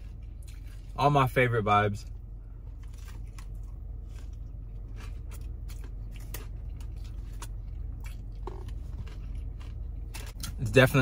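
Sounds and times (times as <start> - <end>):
man chewing a burger: 0.0 - 1.4, 2.1 - 10.7
low hum: 0.0 - 11.0.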